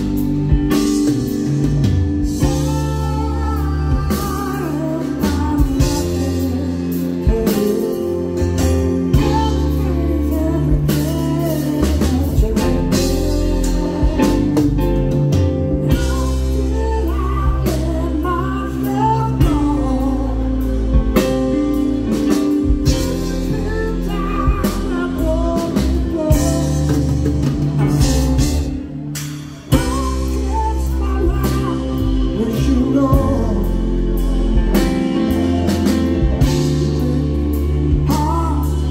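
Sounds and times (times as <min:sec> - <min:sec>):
keyboard: 0:00.0 - 0:38.9
man singing: 0:02.2 - 0:28.9, 0:29.7 - 0:38.9.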